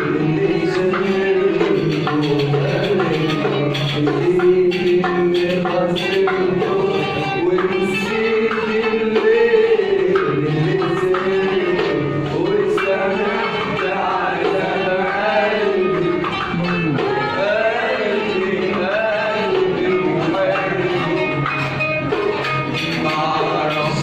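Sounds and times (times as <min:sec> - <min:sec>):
hand drum: 0:00.0 - 0:24.0
qanun melody: 0:00.0 - 0:24.0.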